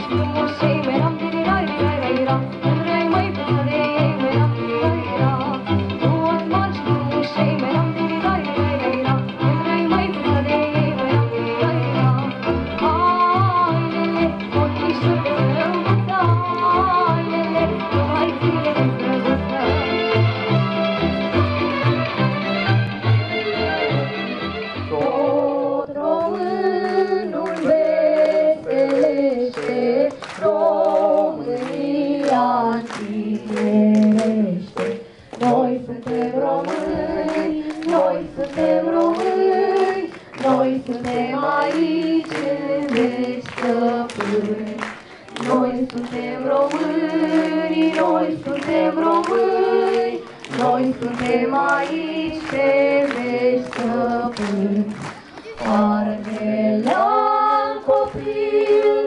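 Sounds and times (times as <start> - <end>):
group of voices singing: 0.0 - 21.1, 23.0 - 59.0.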